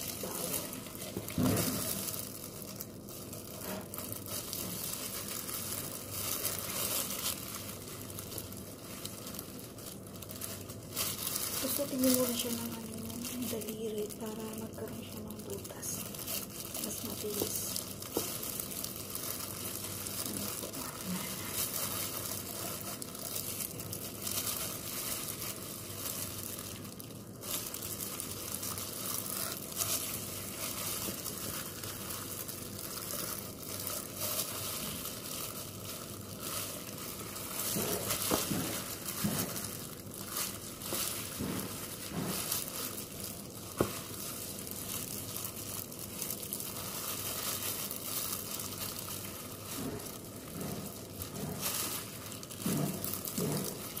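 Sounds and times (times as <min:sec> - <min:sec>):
plastic gloves crinkling: 0:00.0 - 0:54.0.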